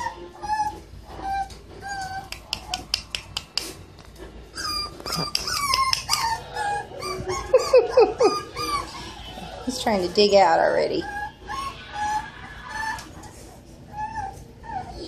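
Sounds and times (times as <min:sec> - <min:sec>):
puppies whimpering and yelping: 0:00.0 - 0:03.0, 0:04.3 - 0:15.0.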